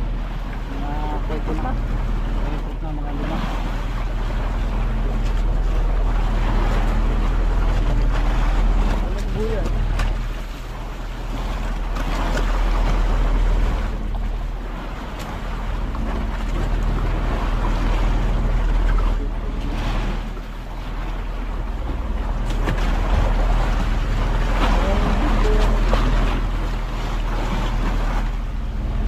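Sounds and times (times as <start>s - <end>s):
boat engine drone: 0.0s - 29.0s
waves washing around hull: 0.0s - 29.0s.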